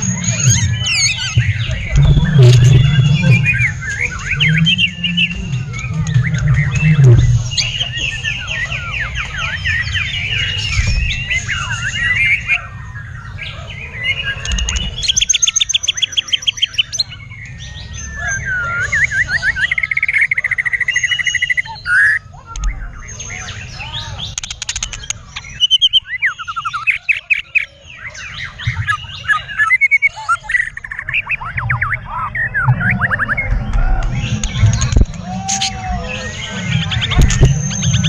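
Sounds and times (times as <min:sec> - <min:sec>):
bird singing trills and whistles: 0:00.0 - 0:38.0.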